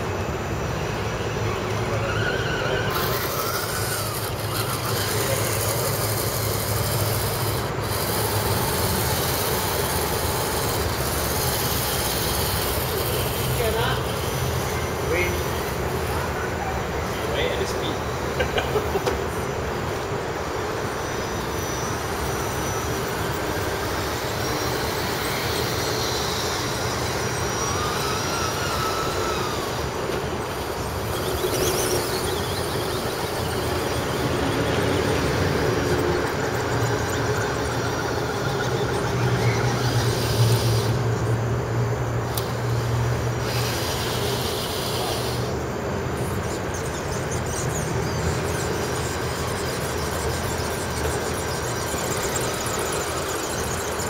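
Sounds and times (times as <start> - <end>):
rc car motor whine: 0.0 - 54.0
traffic rumble: 0.0 - 54.0.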